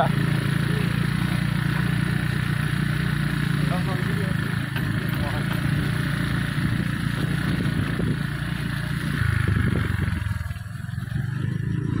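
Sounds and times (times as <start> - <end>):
motor scooter engine running: 0.0 - 12.0.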